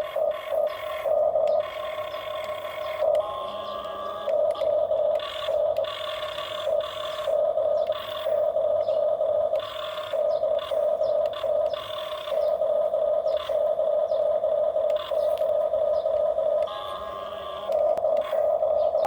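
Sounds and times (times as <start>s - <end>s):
toy electric motors whining: 0.0s - 19.0s.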